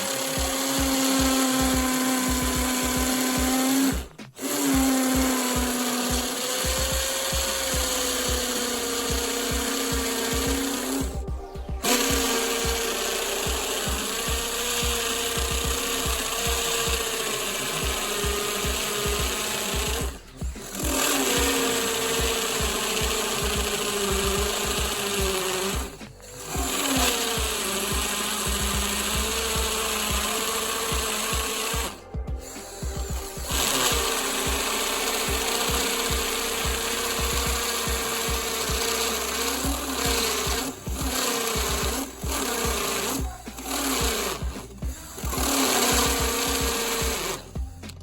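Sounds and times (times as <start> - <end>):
cordless drill whining through steel: 0.0 - 48.0.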